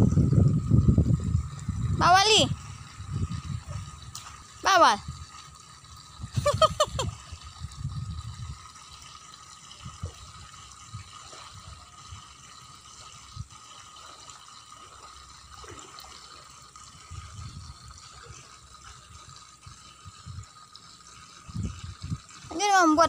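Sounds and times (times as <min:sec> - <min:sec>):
water sloshing and lapping: 0:00.0 - 0:23.0.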